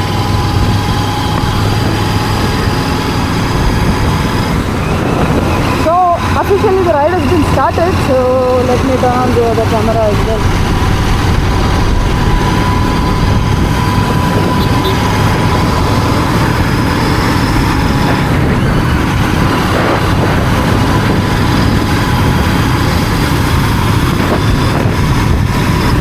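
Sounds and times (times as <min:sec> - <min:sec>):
motorcycle engine running: 0:00.0 - 0:26.0
wind rushing on microphone: 0:00.0 - 0:26.0.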